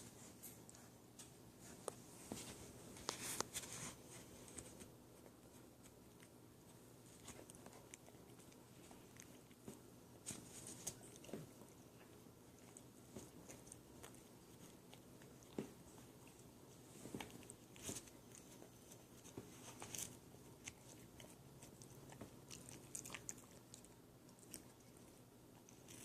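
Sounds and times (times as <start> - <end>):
puppy gnawing and chewing: 0.1 - 26.0.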